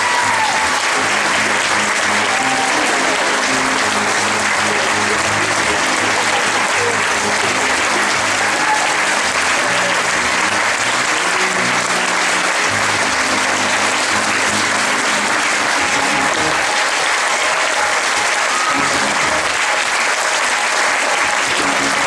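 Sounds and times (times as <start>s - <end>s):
band music: 0.0s - 20.2s
audience applauding: 0.0s - 22.0s.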